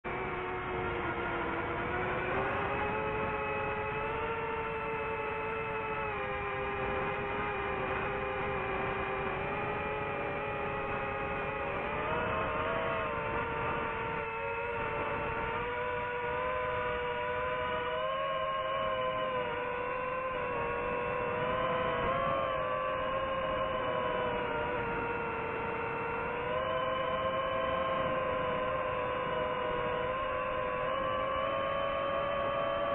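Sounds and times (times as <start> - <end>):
drone propellers whining: 0.1 - 32.9
noisy rush: 0.1 - 32.9.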